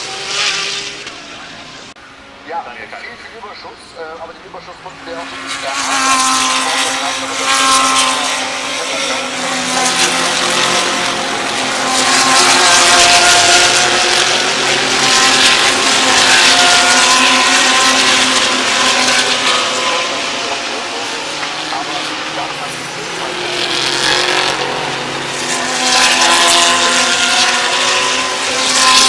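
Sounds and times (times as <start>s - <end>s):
race cars passing at speed: 0.0s - 29.0s.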